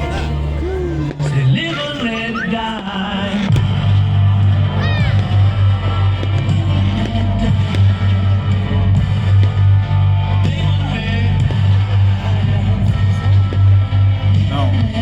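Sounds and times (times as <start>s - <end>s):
deep bass line: 0.0s - 15.0s
rock music with guitar: 0.0s - 15.0s.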